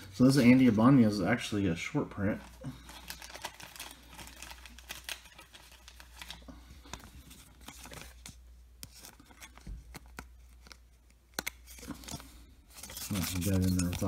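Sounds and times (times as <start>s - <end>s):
plastic card sleeve rustling: 0.0s - 14.0s.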